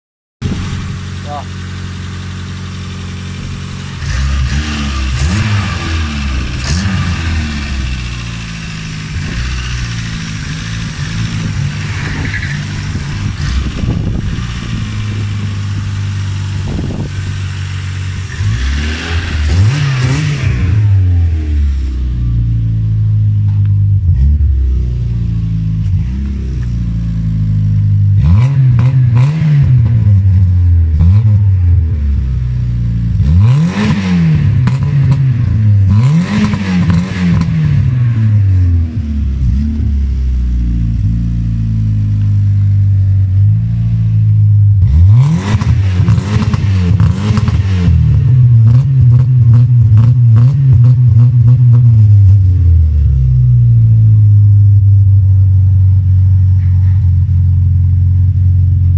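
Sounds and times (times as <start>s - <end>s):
car engine idling and revving: 0.4s - 58.9s.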